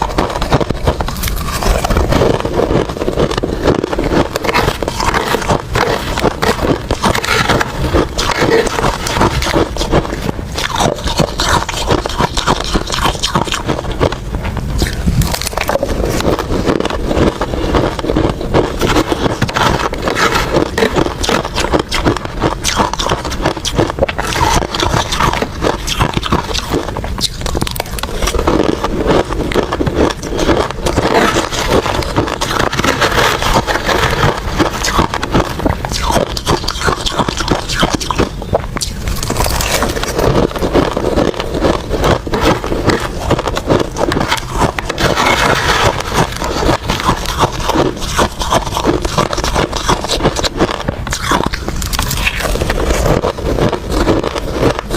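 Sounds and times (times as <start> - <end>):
ice crunching between teeth: 0.0 - 54.9.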